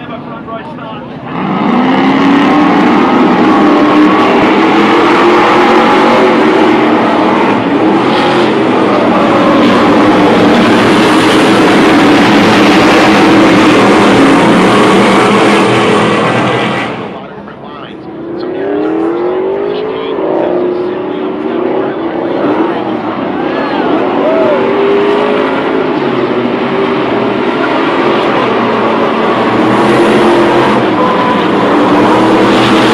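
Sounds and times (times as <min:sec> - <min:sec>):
racing truck engines roaring: 0:00.0 - 0:32.9.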